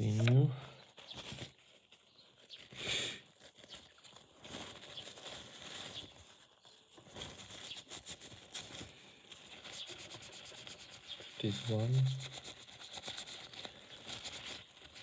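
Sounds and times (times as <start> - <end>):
rubbing and scraping plastic parts: 0.0 - 15.0.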